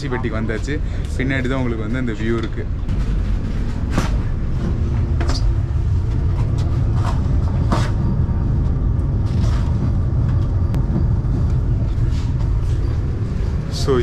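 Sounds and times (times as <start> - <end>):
low train rumble: 0.0 - 14.0.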